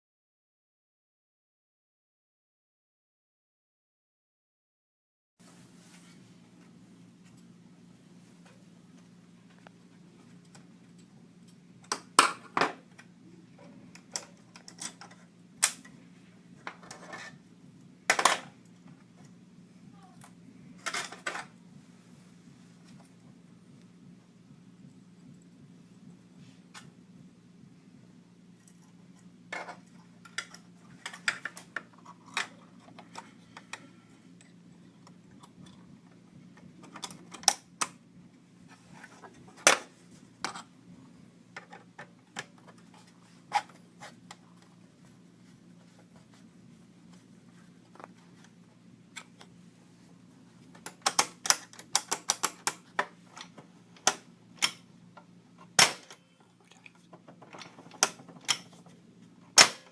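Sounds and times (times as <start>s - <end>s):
steady low hum: 5.4s - 59.9s.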